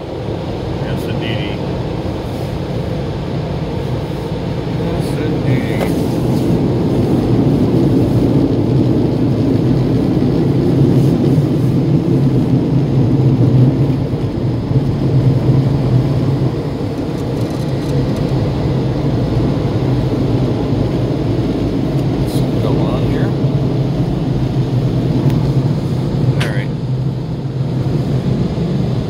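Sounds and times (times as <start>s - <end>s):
car wash dryer blowers rushing air: 0.0s - 29.0s.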